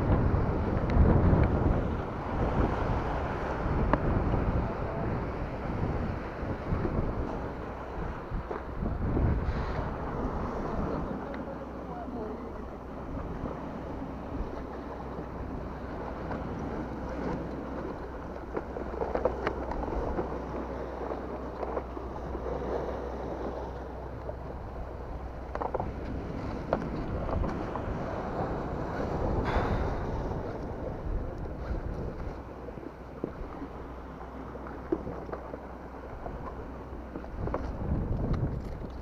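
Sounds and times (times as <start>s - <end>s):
sea waves washing: 0.0s - 39.0s
wind buffeting microphone: 0.0s - 39.0s.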